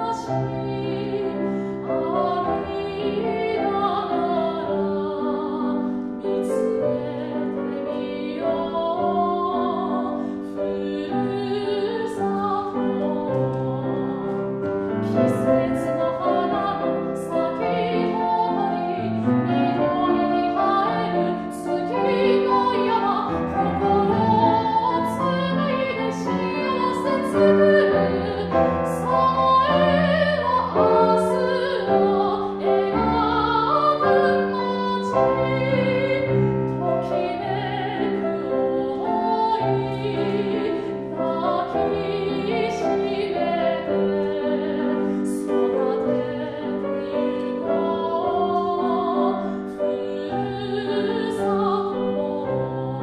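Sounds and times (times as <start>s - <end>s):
grand piano: 0.0s - 53.0s
woman singing operatically: 2.0s - 14.3s, 15.3s - 53.0s.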